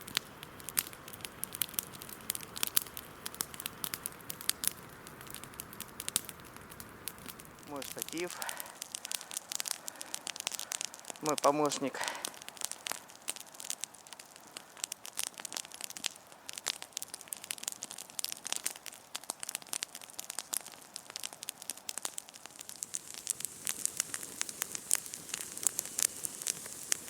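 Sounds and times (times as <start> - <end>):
campfire crackling and popping: 0.0 - 27.0
faint fire hiss: 0.0 - 27.0.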